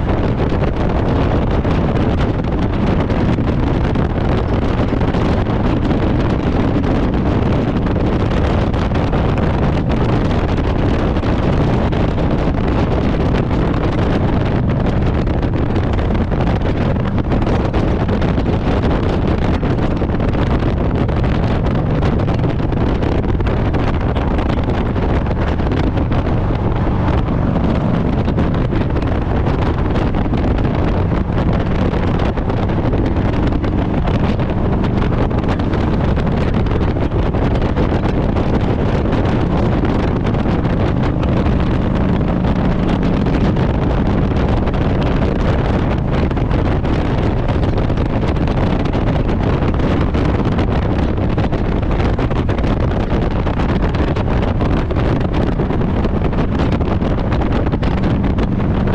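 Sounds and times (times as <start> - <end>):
motorcycle engine cruising: 0.0 - 58.9
wind rush on microphone: 0.0 - 58.9.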